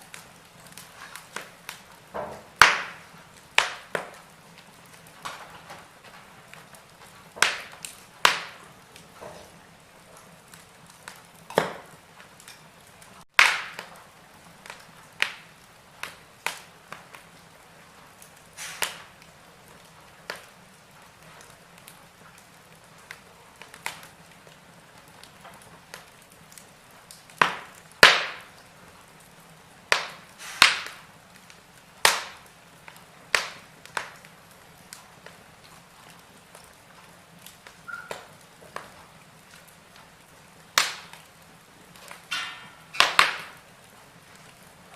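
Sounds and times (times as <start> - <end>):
faint steady fire hiss: 0.0 - 44.9
wood fire crackling and popping: 0.0 - 44.9.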